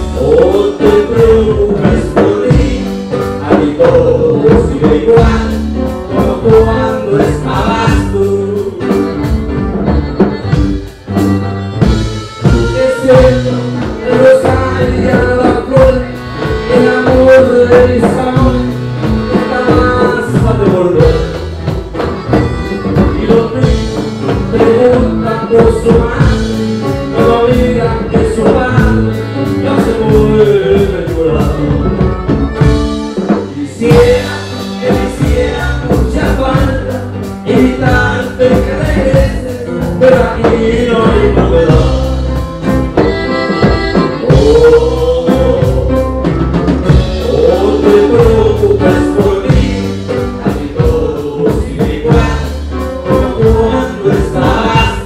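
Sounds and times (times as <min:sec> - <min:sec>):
accordion: 0:00.0 - 0:55.0
drum kit: 0:00.0 - 0:55.0
electric bass: 0:00.0 - 0:55.0
man singing: 0:00.0 - 0:55.0
strummed bajo sexto: 0:00.0 - 0:55.0.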